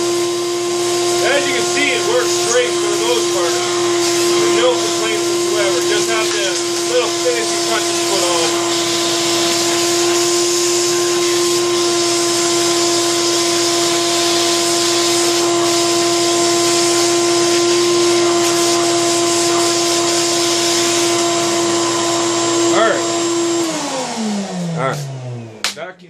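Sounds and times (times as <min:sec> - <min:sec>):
shop vac whining: 0:00.0 - 0:26.0
wood scraps sucked into hose: 0:00.7 - 0:21.8.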